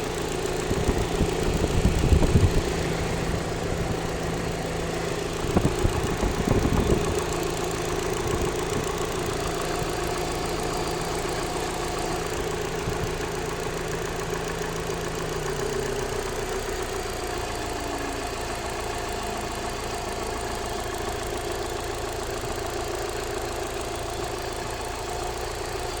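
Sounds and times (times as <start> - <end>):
car engine idling: 0.0 - 26.0
engine knocks: 0.0 - 26.0
ticking from engine bay: 0.0 - 26.0.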